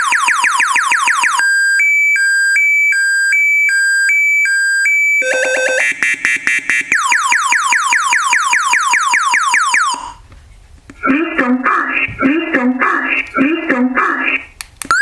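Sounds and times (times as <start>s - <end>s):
electronic alarm beeping and warbling: 0.0s - 10.2s, 11.0s - 15.0s.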